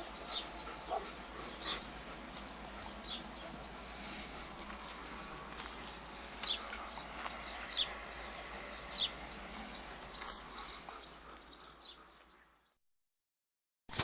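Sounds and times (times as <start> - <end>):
low background noise: 0.0 - 12.2.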